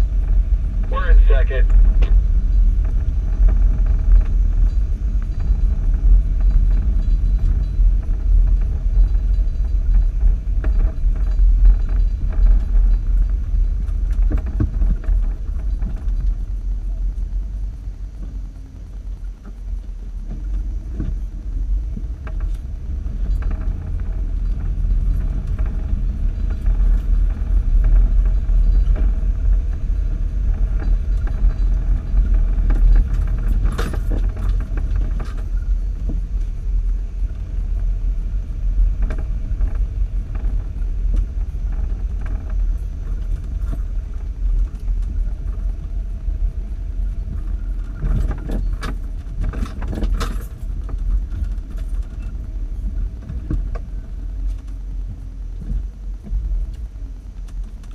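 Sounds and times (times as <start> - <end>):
body knocks and rattles: 0.0 - 57.9
vehicle engine and tyres rumbling: 0.0 - 57.9.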